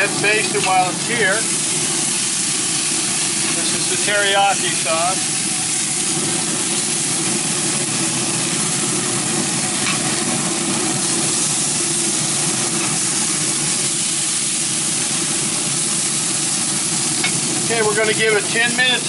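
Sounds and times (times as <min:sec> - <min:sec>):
chicken sizzling on a grill: 0:00.0 - 0:19.0.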